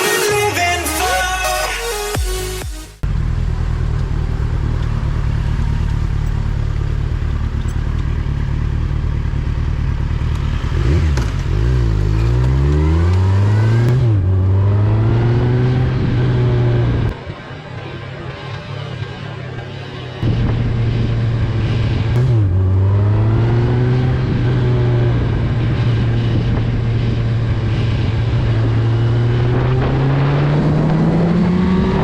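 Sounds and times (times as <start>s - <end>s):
motorcycle engine idling and revving: 3.0s - 32.0s.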